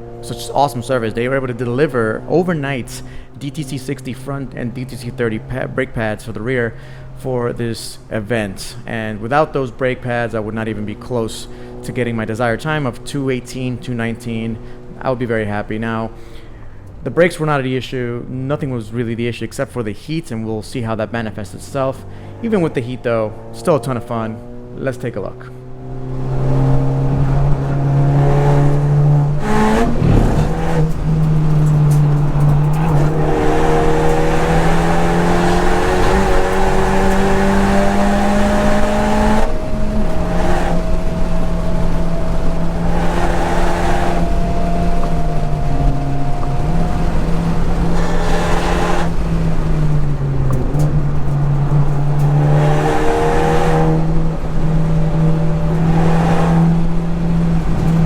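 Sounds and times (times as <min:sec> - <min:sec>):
car engine accelerating hard: 0:00.0 - 0:17.1, 0:21.0 - 0:58.0.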